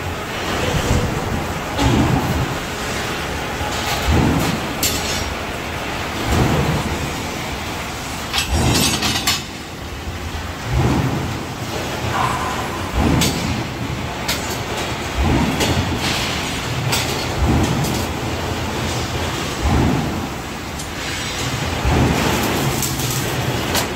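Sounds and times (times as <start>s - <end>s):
steady industrial rumble: 0.0s - 23.9s.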